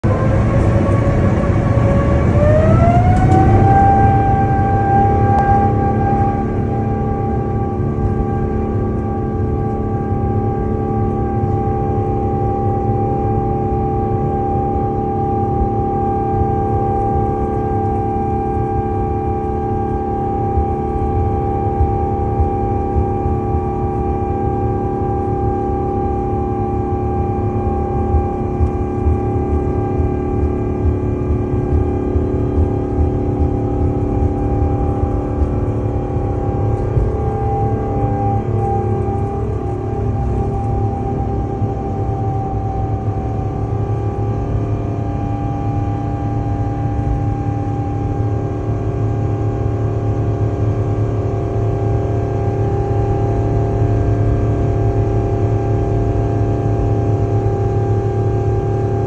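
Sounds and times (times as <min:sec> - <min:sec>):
jet engine drone: 0:00.0 - 0:59.0
low rumble: 0:00.0 - 0:59.0.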